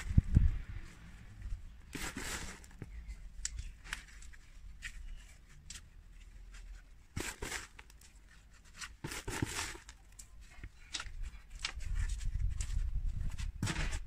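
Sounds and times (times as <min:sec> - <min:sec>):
hand scraping gritty potting mix: 0:00.0 - 0:14.0.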